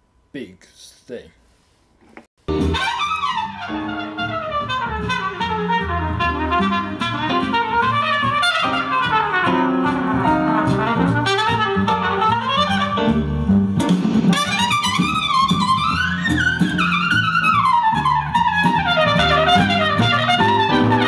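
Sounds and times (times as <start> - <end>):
instrumental music with brass melody: 2.4 - 21.0.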